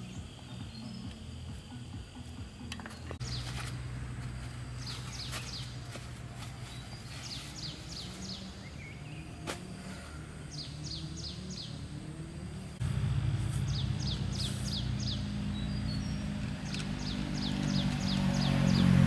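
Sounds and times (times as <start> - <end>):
low steady hum: 0.0 - 19.0
songbird calling: 0.0 - 19.0.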